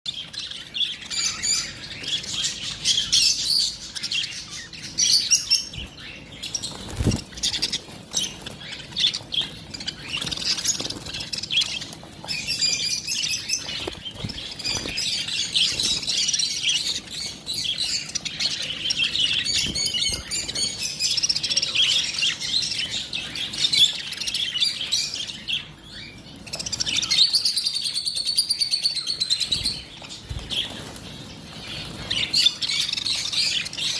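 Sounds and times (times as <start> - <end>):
lovebirds chirping: 0.1 - 33.9.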